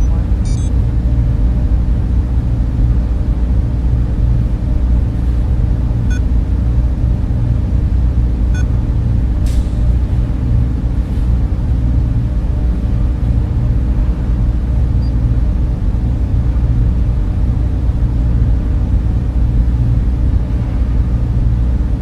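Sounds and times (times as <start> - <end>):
cooling fans whirring: 0.0 - 22.0
low hum: 0.0 - 22.0.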